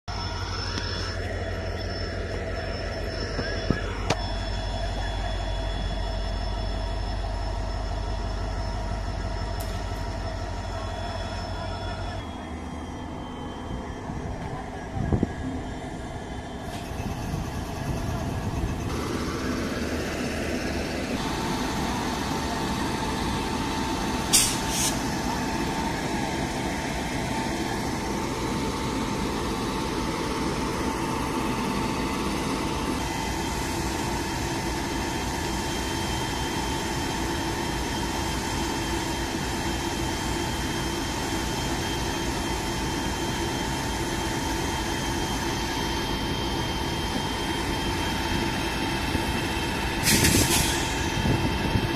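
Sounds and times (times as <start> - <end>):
locomotive mechanical drone: 0.1 - 51.9
rising whine: 0.1 - 51.9.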